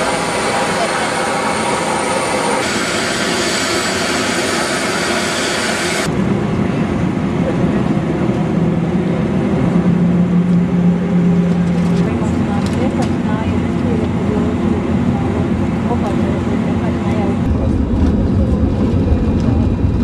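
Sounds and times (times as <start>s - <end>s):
jet engine rush and whine: 0.0s - 20.0s
muffled aircraft cabin rush: 0.0s - 20.0s.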